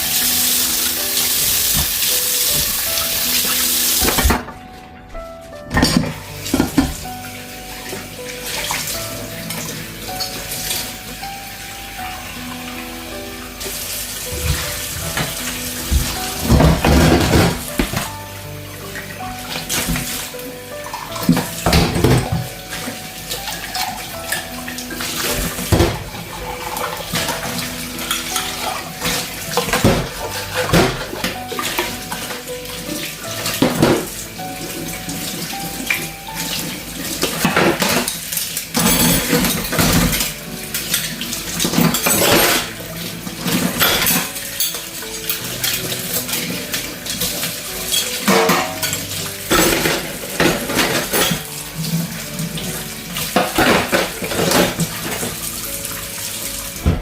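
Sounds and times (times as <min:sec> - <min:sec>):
dishes and cutlery clinking: 0:00.0 - 0:11.8, 0:13.6 - 0:56.0
tap water running: 0:00.0 - 0:57.0.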